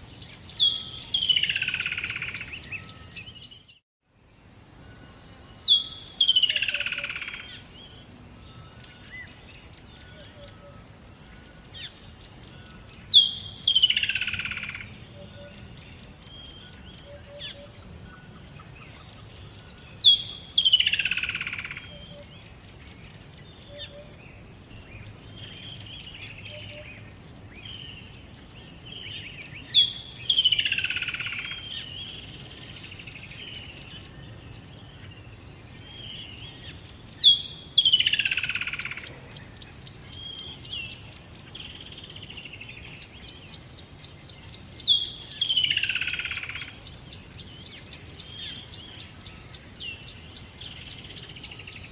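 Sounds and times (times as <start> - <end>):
soft bird chirps: 0.0 - 51.9.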